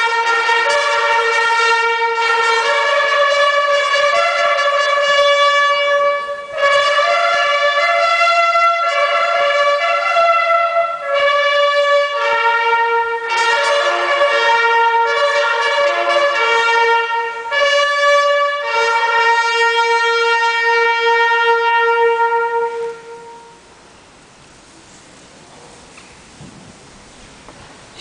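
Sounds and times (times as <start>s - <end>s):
bugles playing sustained notes: 0.0s - 24.4s.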